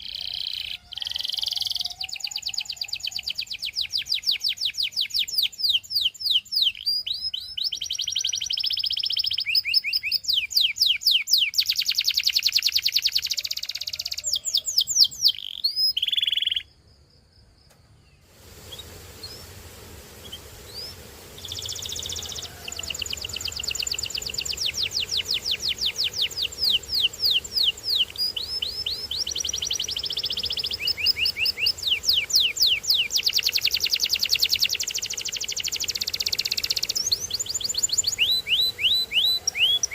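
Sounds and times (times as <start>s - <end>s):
canary singing: 0.0s - 16.7s, 18.6s - 19.6s, 20.2s - 39.9s.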